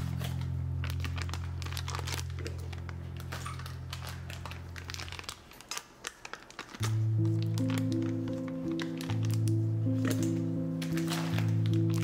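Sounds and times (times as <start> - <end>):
background music: 0.0 - 5.7, 6.8 - 12.0
crinkling with small crackles: 0.0 - 12.0.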